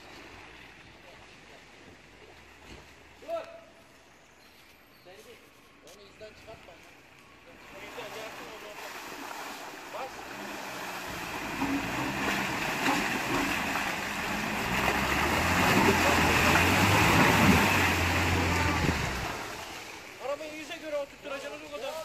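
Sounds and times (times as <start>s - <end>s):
off-road vehicle engine under load: 0.0s - 22.0s.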